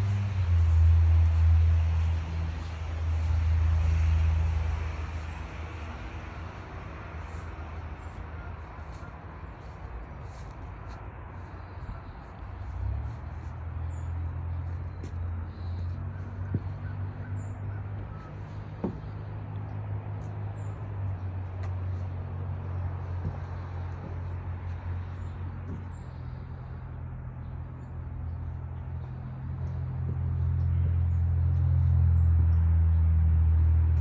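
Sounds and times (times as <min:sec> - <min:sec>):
low motor hum: 0:00.0 - 0:34.0.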